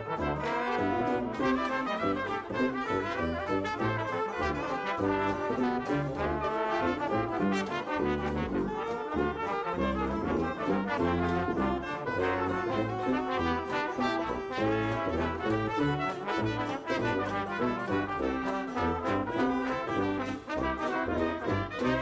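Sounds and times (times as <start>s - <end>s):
brass instruments music: 0.0s - 22.0s.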